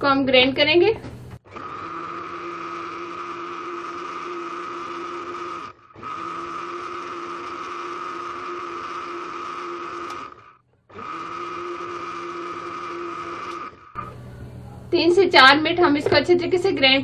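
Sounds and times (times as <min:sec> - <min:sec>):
blender motor running: 0:01.0 - 0:15.4.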